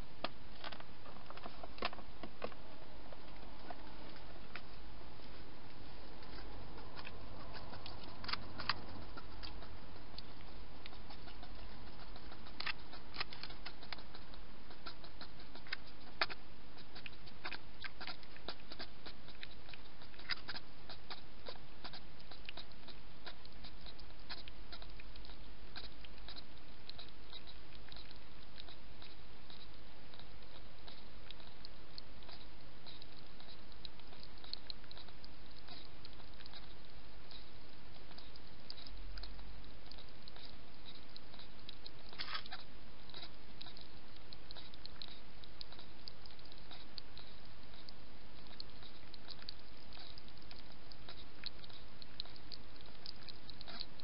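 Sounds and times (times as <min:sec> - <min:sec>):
steady hiss: 0:00.0 - 0:54.0
hedgehog lapping water: 0:01.4 - 0:54.0.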